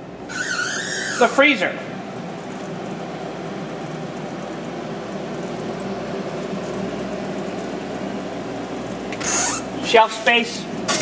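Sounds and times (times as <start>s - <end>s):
refrigerator compressor humming: 0.0s - 11.0s.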